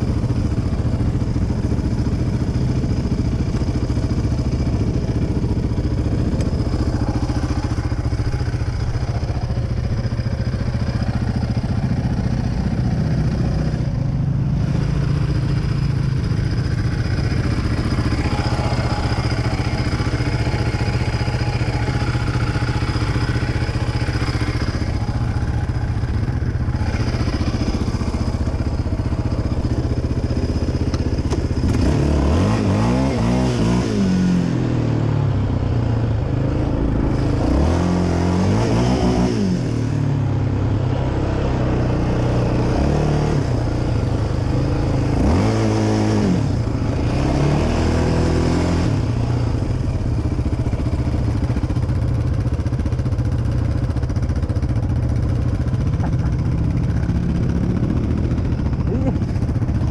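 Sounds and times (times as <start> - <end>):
quad bike engines revving: 0.0 - 59.9.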